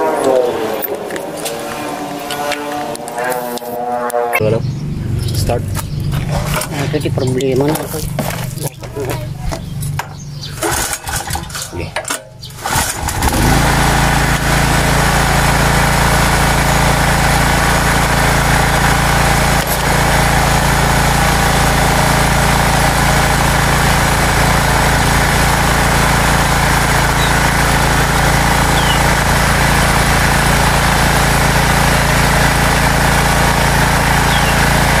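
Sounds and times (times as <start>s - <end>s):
gasoline generator engine running: 4.4s - 35.0s.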